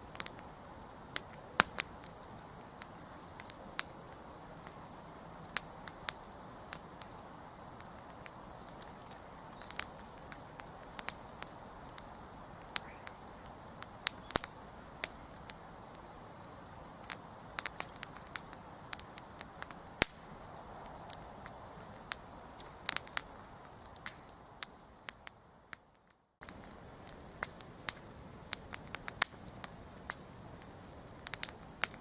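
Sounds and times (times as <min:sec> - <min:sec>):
hiss of burning: 0:00.0 - 0:25.8, 0:26.4 - 0:32.0
campfire crackling and popping: 0:00.0 - 0:32.0.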